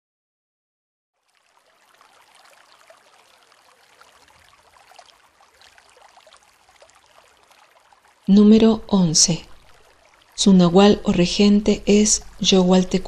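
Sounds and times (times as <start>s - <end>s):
running water splashing: 1.2s - 13.0s.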